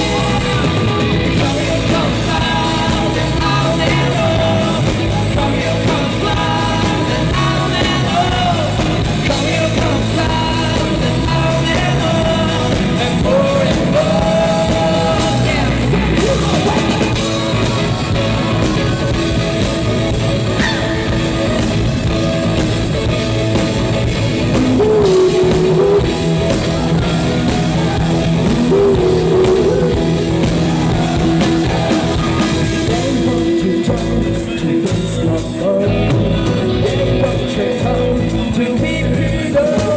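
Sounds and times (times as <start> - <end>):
lead singer singing: 0.0 - 39.9
rock band playing live: 0.0 - 39.9.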